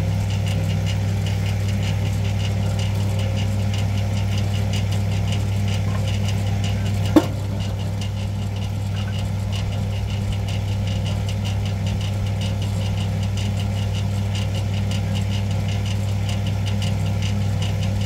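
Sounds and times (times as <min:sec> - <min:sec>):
engine running with low hum: 0:00.0 - 0:18.0.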